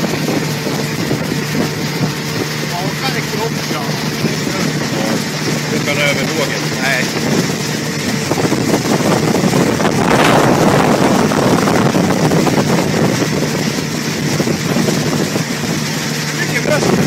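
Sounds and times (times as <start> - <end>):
motorboat engine running: 0.0 - 17.0
water churning in wake: 0.0 - 17.0
wind on microphone: 0.0 - 17.0.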